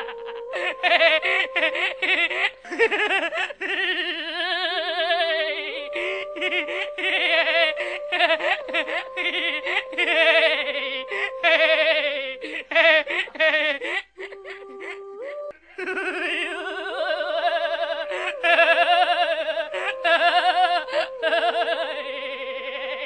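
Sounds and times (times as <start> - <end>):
people laughing and giggling: 0.0 - 23.0.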